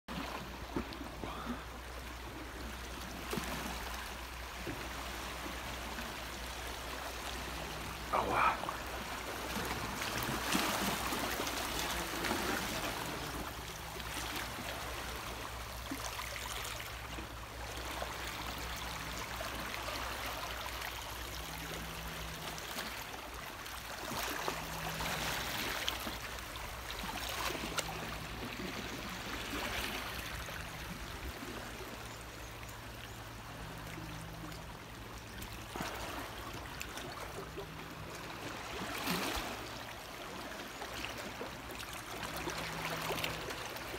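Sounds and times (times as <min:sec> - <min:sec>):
sea water lapping among rocks: 0:00.1 - 0:32.6, 0:33.2 - 0:43.9.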